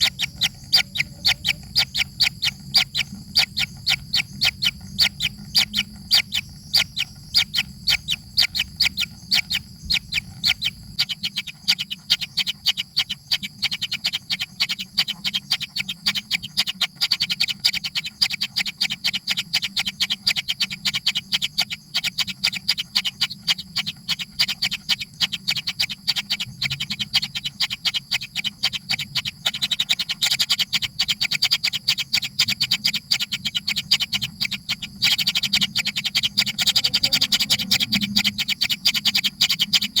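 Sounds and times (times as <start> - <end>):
baby birds chirping: 0.0 - 40.0.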